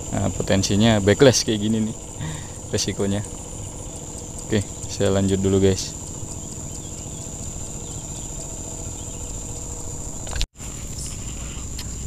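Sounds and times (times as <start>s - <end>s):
insects chirring: 0.0s - 12.0s
low background rumble: 0.0s - 12.0s.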